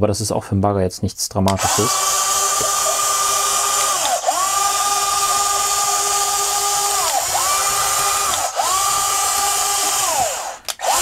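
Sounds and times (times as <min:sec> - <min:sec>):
electric motor high whine: 0:01.6 - 0:11.0.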